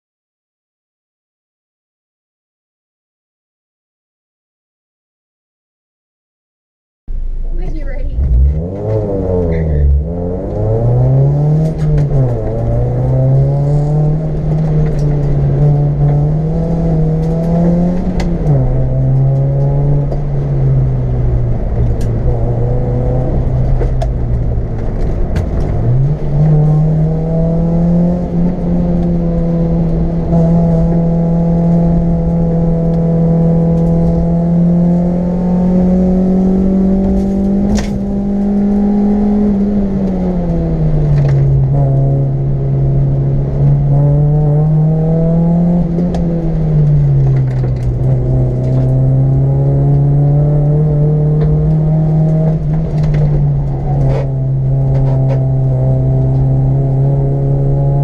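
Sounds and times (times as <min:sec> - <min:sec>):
car engine accelerating: 0:07.1 - 0:58.0.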